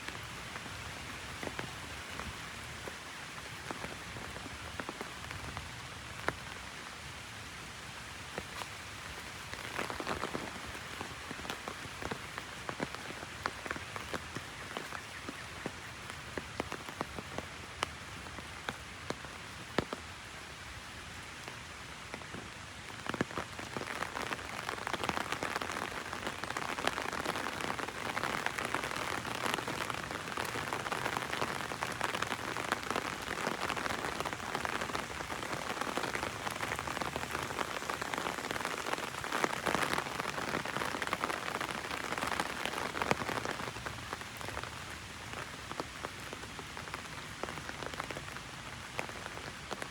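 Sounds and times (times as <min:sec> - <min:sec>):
heavy rain on an umbrella: 0:00.0 - 0:49.9
raindrops ticking on umbrella: 0:00.0 - 0:49.9.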